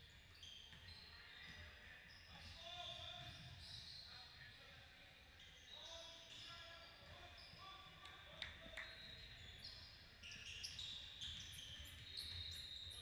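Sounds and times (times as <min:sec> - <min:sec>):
sneaker squeaks on gym court: 0:00.0 - 0:04.4, 0:05.4 - 0:13.0.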